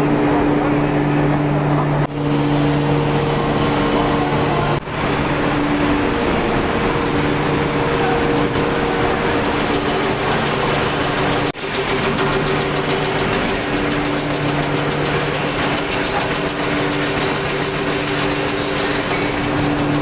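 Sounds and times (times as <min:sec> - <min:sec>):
industrial machinery running: 0:00.0 - 0:20.0.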